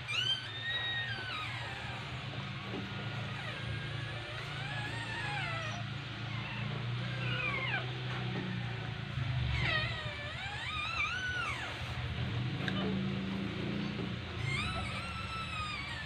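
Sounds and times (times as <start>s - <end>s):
puppies squealing: 0.0s - 16.0s.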